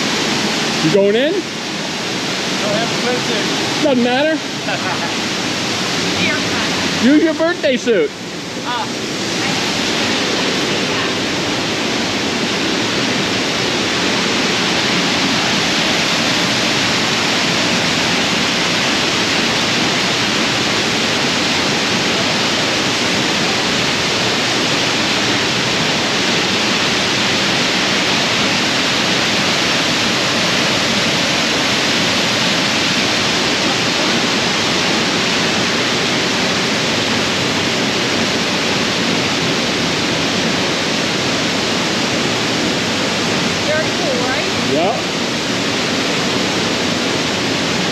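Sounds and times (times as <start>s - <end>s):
waterfall rushing into pool: 0.0s - 47.9s.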